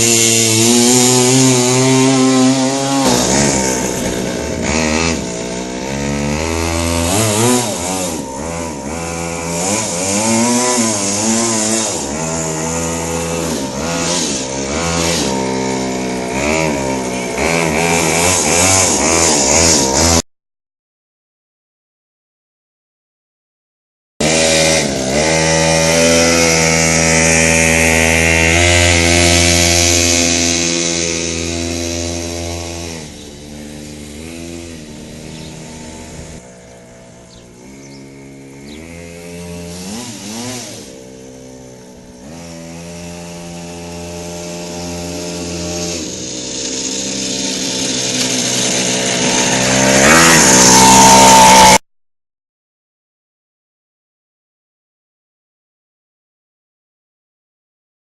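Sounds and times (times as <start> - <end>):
minibike engine revving: 0.0 - 20.2, 24.2 - 51.8.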